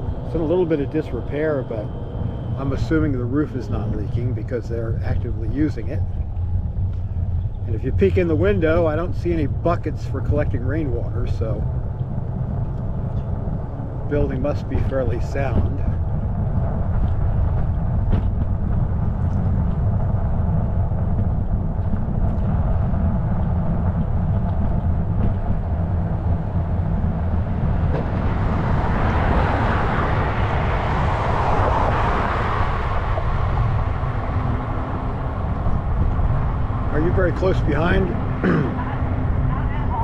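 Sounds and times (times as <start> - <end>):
bicycle road rumble: 0.0 - 40.0
motor vehicle passing: 0.0 - 40.0
wind on microphone: 0.0 - 40.0.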